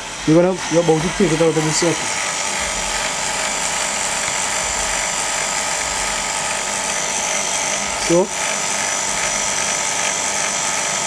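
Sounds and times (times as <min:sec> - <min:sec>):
vacuum pump motor drone: 0:00.0 - 0:11.0.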